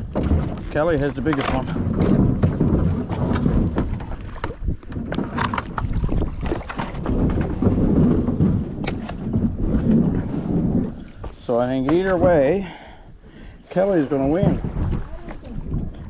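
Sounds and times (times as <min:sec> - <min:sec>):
water noise: 0:00.0 - 0:16.0
wind buffeting microphone: 0:00.0 - 0:16.0.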